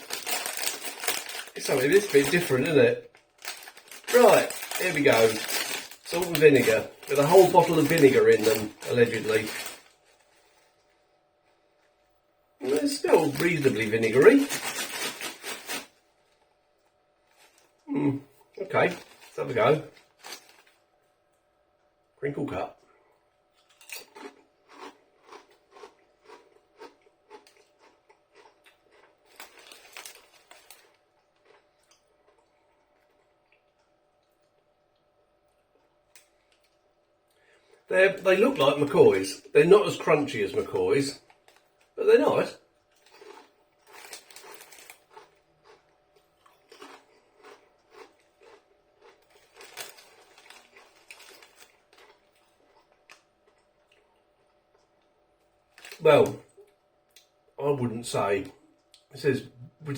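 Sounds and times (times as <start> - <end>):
person chewing crisps: 0.0 - 12.0, 12.6 - 16.6, 17.2 - 18.1, 18.8 - 20.9, 23.5 - 38.9, 42.8 - 57.4.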